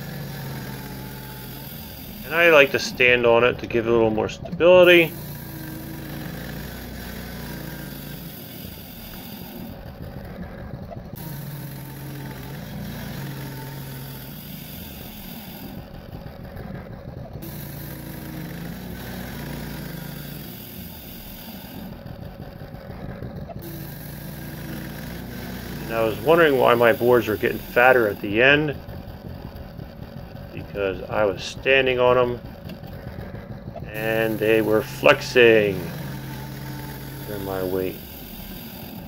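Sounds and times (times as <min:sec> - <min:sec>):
gas engine running: 0:00.0 - 0:39.0.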